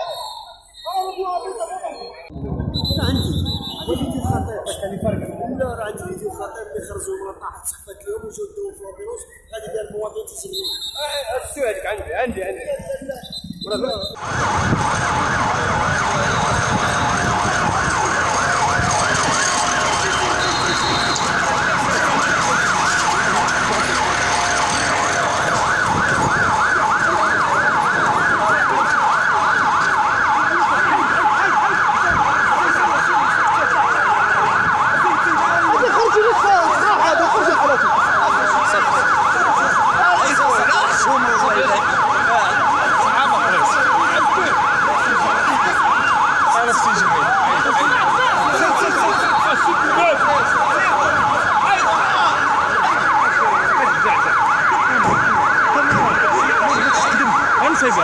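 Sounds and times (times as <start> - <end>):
emergency siren warbling: 0.0 - 11.9, 13.0 - 58.0.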